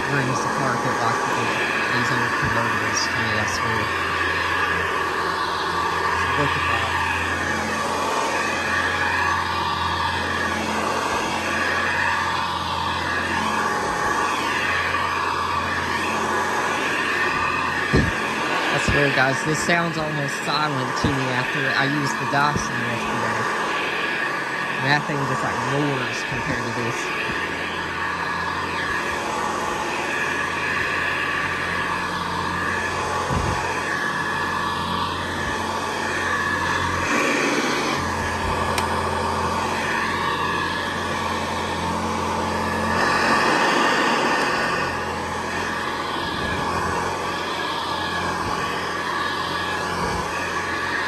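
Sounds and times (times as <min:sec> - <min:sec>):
upright vacuum cleaner running: 0:00.0 - 0:51.0.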